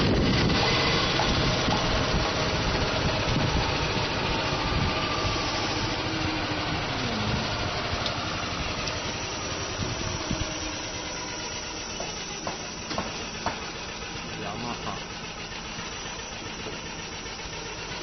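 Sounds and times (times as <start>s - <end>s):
golf cart engine running: 0.0s - 18.0s
tyre and road noise: 0.0s - 18.0s.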